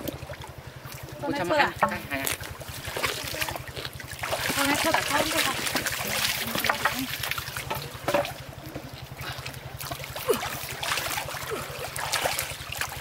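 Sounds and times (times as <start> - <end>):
water pump engine pulsing: 0.0 - 13.0
water splashing and trickling: 0.0 - 13.0.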